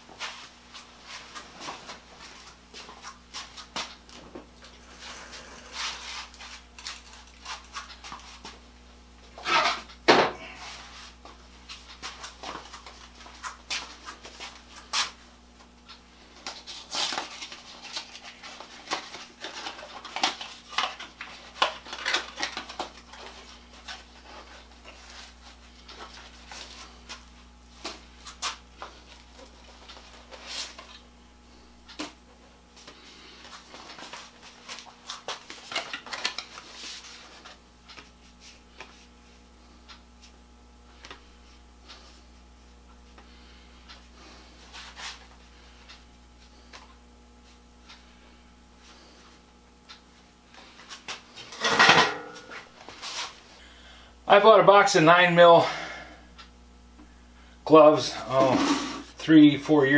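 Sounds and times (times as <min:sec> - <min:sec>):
steady low electrical hum: 0:00.0 - 0:59.9.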